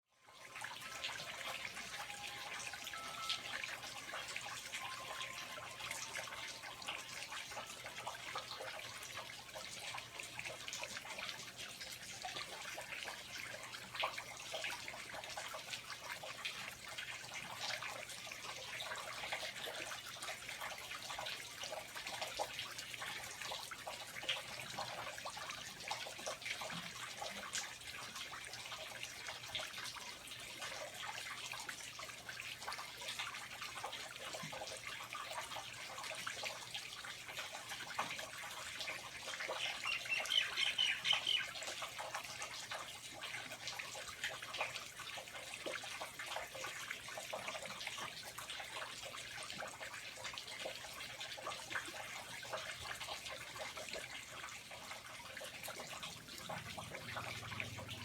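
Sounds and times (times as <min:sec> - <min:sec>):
water dripping and trickling: 0:00.2 - 0:58.0.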